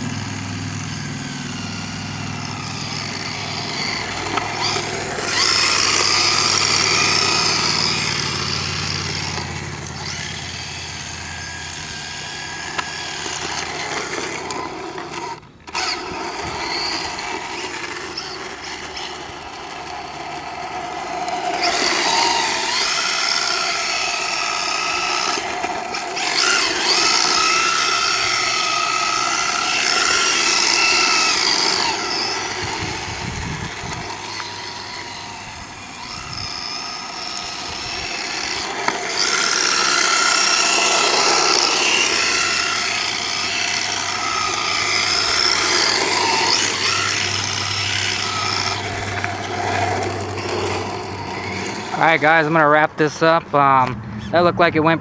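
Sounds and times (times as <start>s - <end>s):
tyres sliding on asphalt: 0.0s - 53.9s
toy car motor whining: 0.0s - 54.5s.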